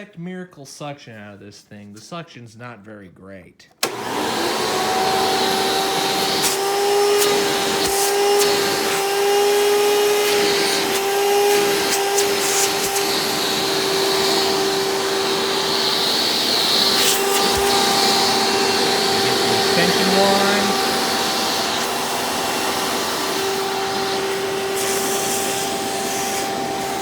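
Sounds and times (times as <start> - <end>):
vacuum cleaner motor whine: 3.8 - 27.0.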